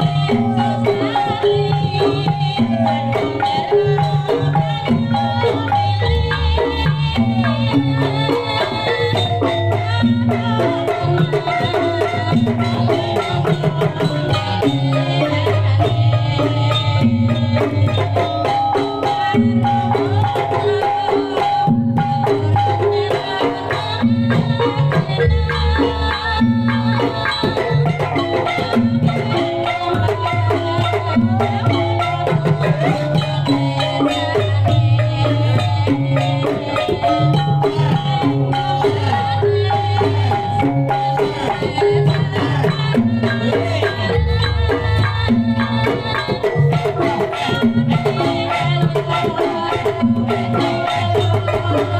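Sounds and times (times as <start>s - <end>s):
hand drums: 0.0s - 51.9s.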